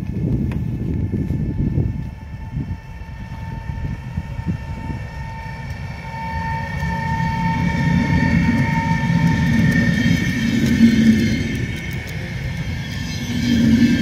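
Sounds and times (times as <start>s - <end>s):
electric locomotive whine: 0.0s - 14.0s
train wheels rumbling on rail: 0.0s - 14.0s.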